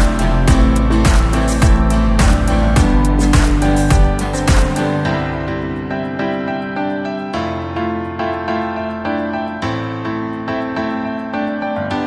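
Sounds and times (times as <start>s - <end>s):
gentle keyboard melody: 0.0s - 12.0s.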